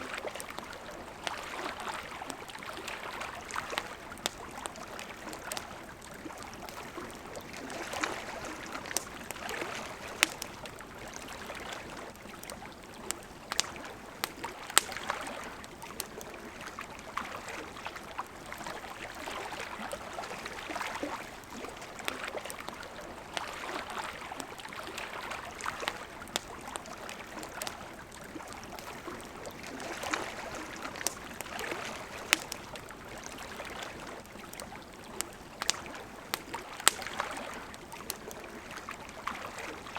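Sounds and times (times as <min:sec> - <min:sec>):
campfire crackling and popping: 0:00.0 - 0:39.9
river water babbling: 0:00.0 - 0:39.9.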